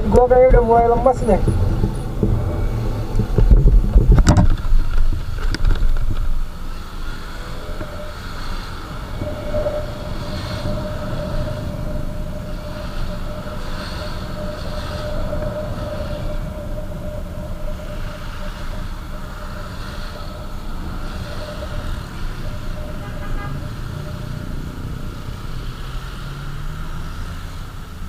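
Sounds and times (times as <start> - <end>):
wind buffeting microphone: 0.0 - 25.9
motorcycle engine: 0.0 - 28.0.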